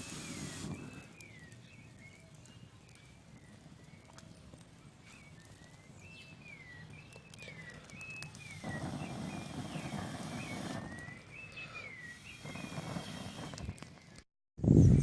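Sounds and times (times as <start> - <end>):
bird singing whistled phrases: 0.0 - 4.4, 5.0 - 14.2.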